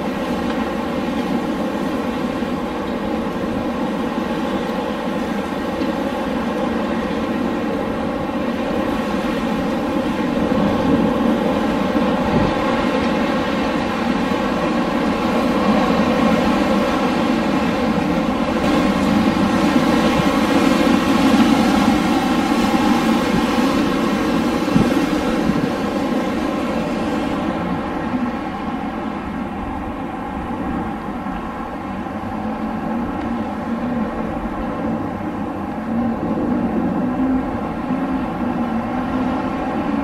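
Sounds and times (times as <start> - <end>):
wind blowing steadily: 0.0 - 40.0.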